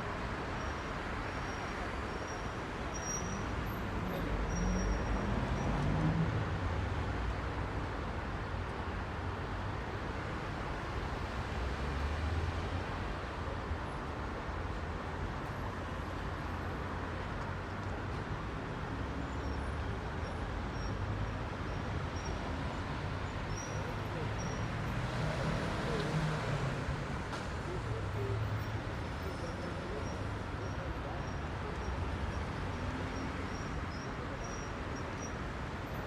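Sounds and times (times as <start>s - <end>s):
heavy road traffic: 0.0s - 36.0s.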